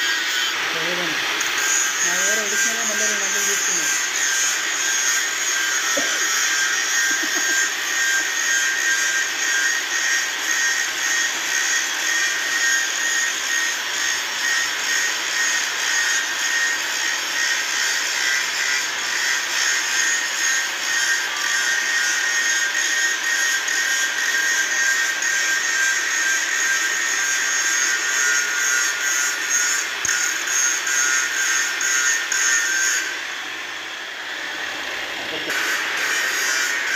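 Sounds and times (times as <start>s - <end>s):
angle grinder grinding steel: 0.0s - 36.9s.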